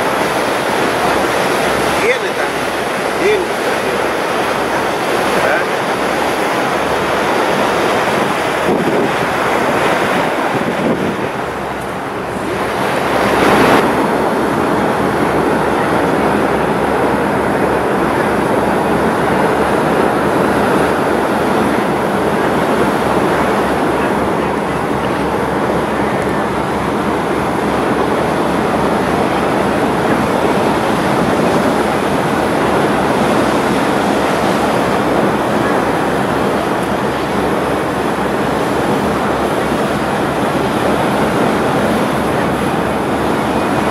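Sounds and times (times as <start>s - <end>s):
pulsing boat engine rumble: 0.0s - 43.9s
water rushing: 0.0s - 43.9s
wind on microphone: 0.0s - 43.9s.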